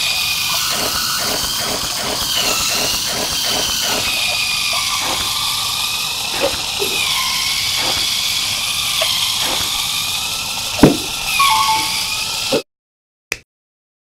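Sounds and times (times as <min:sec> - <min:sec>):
electric motor whirring: 0:00.0 - 0:12.6.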